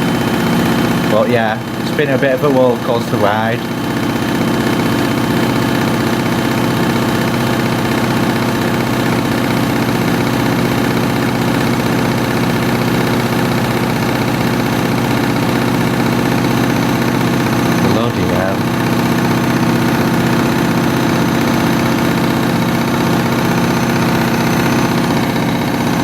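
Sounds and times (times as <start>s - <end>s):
washing machine spin cycle: 0.0s - 26.0s.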